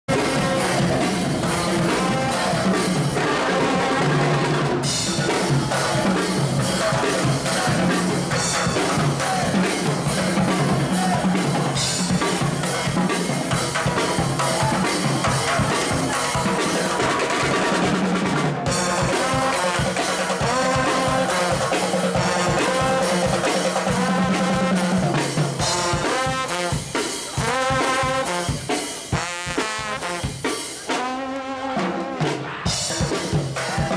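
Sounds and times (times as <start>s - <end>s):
trombones: 0.1s - 17.9s, 18.6s - 33.9s
brass band playing: 0.1s - 33.9s
drum kit beat: 0.1s - 33.9s.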